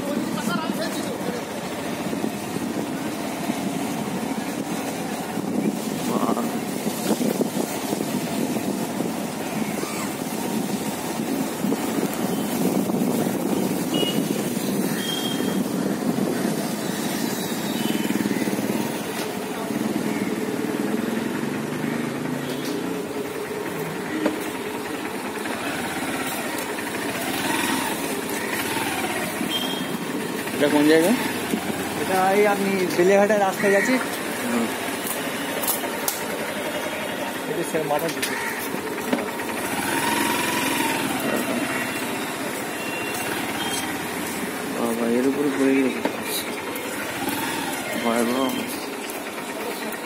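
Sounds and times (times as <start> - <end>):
motorcycle engine running: 0.0 - 50.0
road noise: 0.0 - 50.0.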